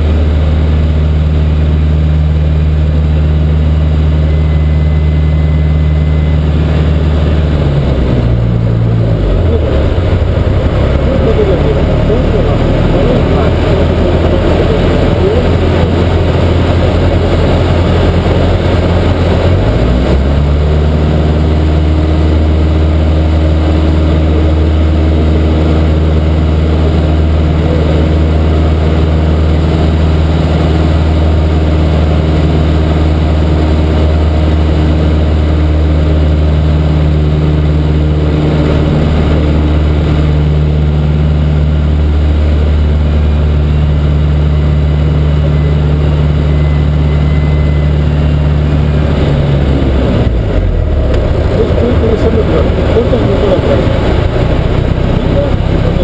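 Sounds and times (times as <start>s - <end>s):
light aircraft engine from cabin: 0.0s - 56.0s.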